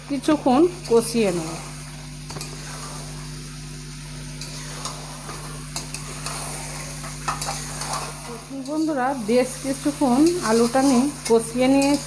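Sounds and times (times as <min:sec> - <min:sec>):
oil and spices sizzling: 0:00.0 - 0:12.0.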